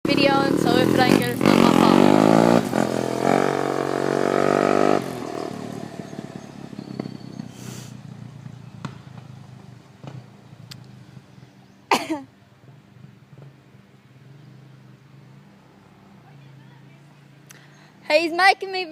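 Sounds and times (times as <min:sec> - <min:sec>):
vehicle engine pulling away: 0:00.0 - 0:18.0.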